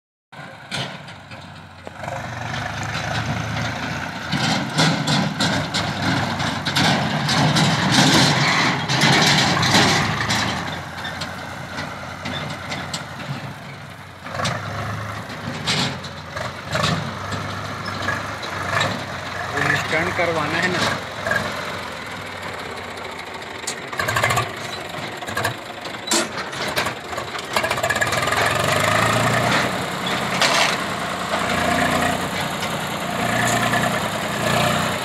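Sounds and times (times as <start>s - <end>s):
tractor diesel engine running: 0.4s - 35.0s
trailer knocks and rattles: 0.5s - 35.0s.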